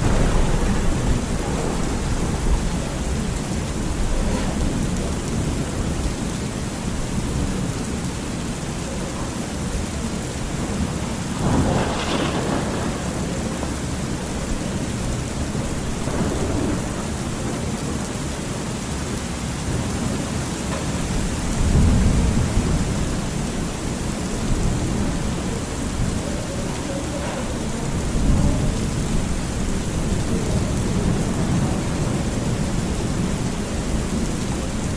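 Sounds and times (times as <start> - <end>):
rolling thunder: 0.0 - 18.2, 20.9 - 34.9
steady rain hiss: 0.0 - 34.9.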